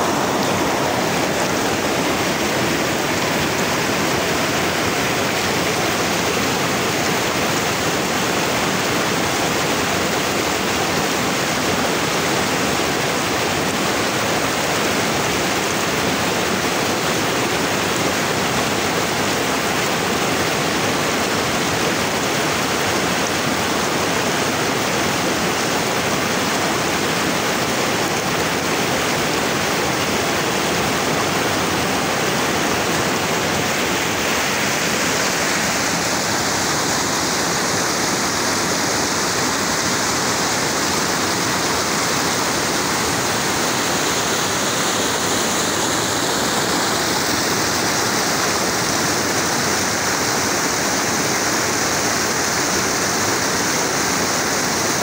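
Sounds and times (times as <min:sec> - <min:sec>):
river rushing over boulders: 0:00.0 - 0:55.0.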